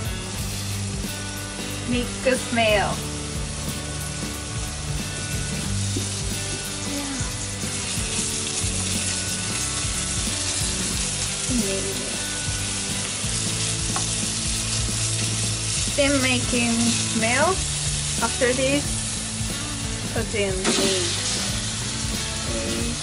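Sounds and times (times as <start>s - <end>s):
garlic sizzling in oil: 0.0s - 23.0s.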